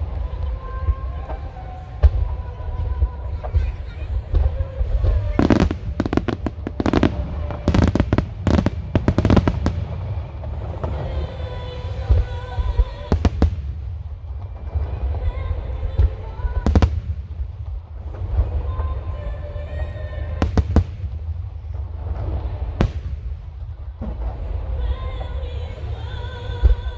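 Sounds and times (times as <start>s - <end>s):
low rumble of fireworks booms: 0.0s - 26.9s
fireworks bangs: 0.1s - 24.9s.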